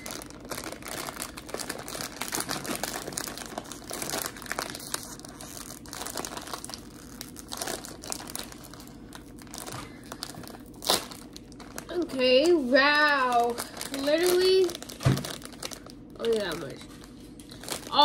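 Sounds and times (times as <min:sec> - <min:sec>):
plastic chip bag crinkling: 0:00.0 - 0:18.0.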